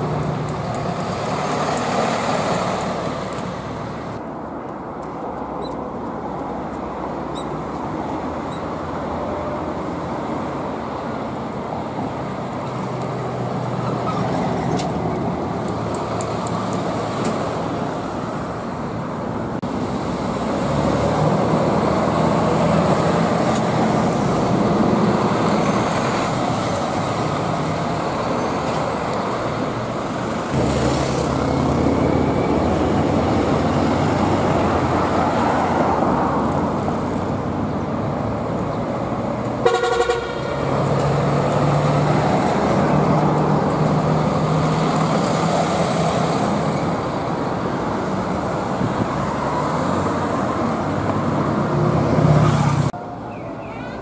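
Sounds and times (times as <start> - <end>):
street traffic: 0.0 - 54.0
trucks driving past: 0.0 - 54.0.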